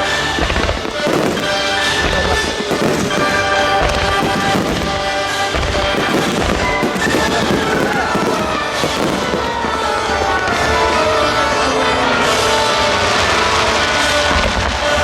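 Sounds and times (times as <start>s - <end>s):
fireworks booming and crackling: 0.0s - 15.0s
music: 0.0s - 15.0s.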